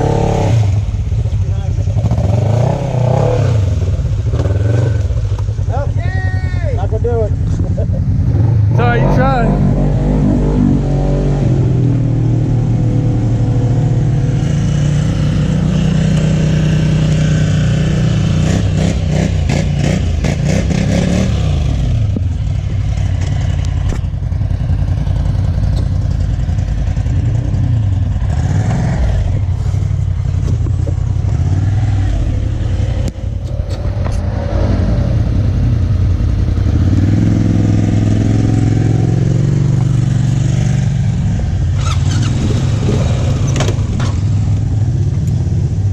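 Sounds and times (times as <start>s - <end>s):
off-road vehicle engine revving: 0.0s - 45.9s.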